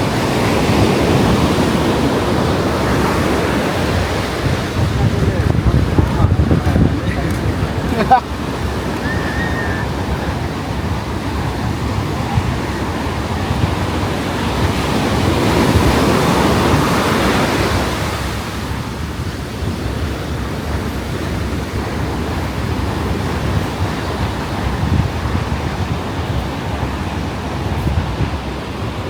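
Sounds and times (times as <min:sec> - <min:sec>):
ocean surf washing onto beach: 0:00.0 - 0:29.0
wind rumbling on microphone: 0:00.0 - 0:29.0.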